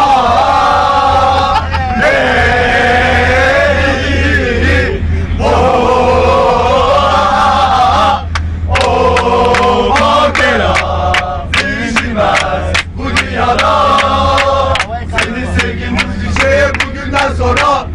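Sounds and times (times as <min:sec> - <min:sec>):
men chanting a song: 0:00.0 - 0:17.9.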